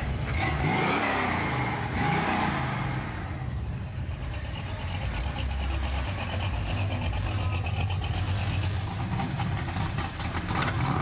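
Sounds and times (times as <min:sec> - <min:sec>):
low rumble of engines: 0:00.0 - 0:11.0.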